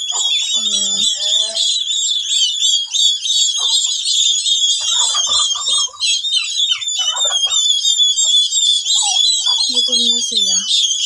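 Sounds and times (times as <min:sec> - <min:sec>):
lower bird calls: 0:00.0 - 0:11.0
turkey poults peeping: 0:00.0 - 0:11.0.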